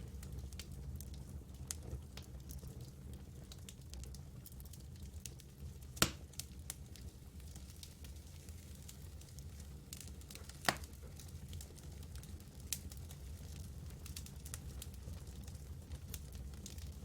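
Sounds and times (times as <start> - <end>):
campfire crackling and popping: 0.0 - 17.0
low rumble of fire: 0.0 - 17.0.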